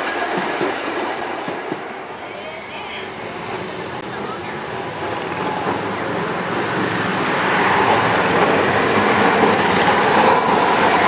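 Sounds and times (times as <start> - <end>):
tram rumbling along track: 0.0 - 11.0.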